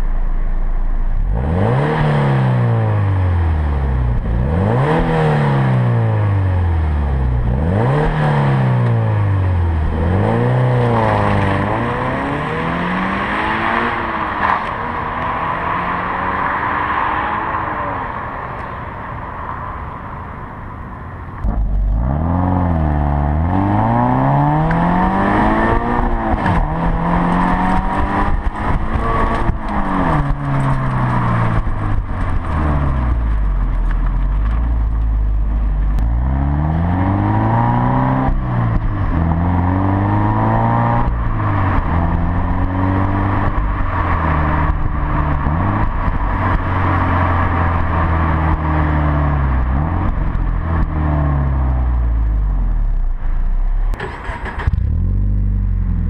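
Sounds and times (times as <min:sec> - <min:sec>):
car engine revving: 0:00.0 - 0:19.3, 0:21.3 - 0:56.0.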